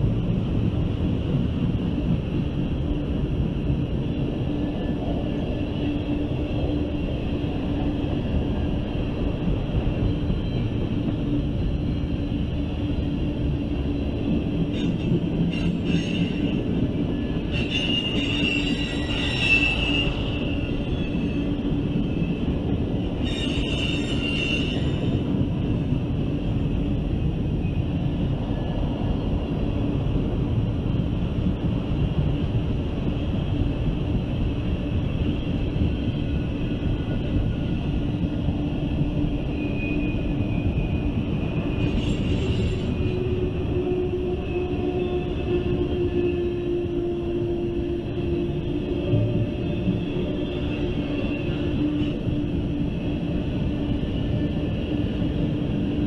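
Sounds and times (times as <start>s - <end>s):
freight train rolling past: 0.0s - 56.0s
train wheel squeal: 2.8s - 30.2s, 31.6s - 56.0s.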